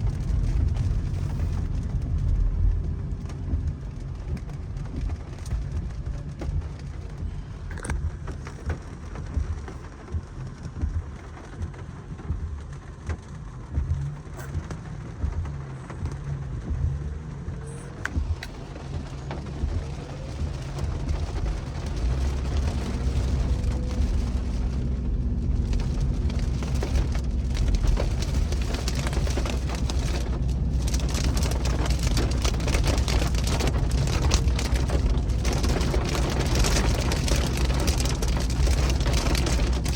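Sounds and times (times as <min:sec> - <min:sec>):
car engine and road rumble: 0:00.0 - 0:39.9
rain and tyre spray hissing: 0:00.0 - 0:39.9.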